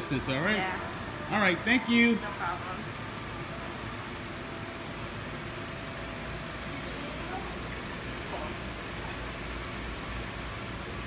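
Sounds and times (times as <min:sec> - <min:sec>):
fish tank hum and hiss: 0:00.0 - 0:11.0.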